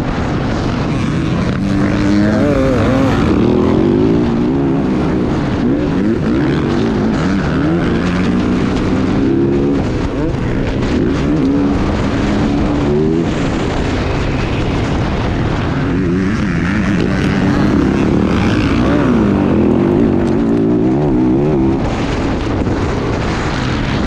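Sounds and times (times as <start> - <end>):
motocross bike engine revving: 0.0 - 24.0
wind on microphone: 0.0 - 24.0.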